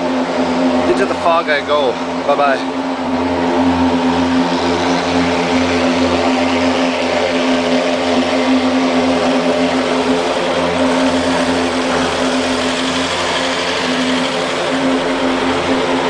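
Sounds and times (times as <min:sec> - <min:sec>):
fogging machine droning: 0:00.0 - 0:16.0.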